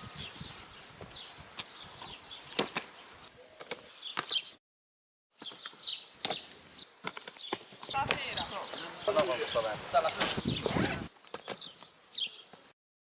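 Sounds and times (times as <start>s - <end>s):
birds chirping: 0.0s - 4.6s, 5.4s - 12.7s.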